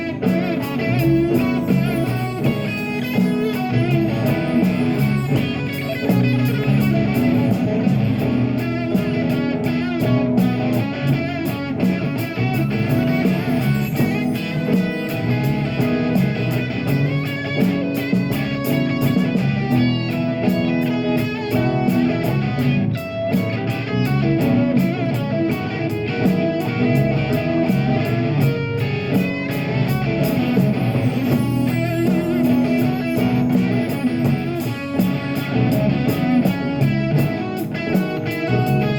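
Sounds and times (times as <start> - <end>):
bass guitar: 0.0 - 38.9
cymbal beat: 0.0 - 38.9
electric guitar: 0.0 - 38.9.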